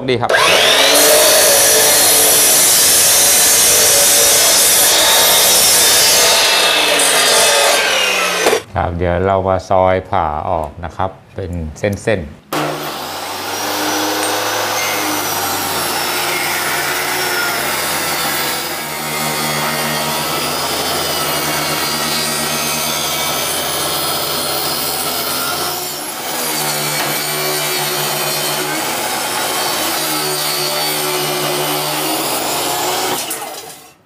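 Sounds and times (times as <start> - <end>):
table saw cutting wood: 0.2 - 8.7, 12.5 - 34.0.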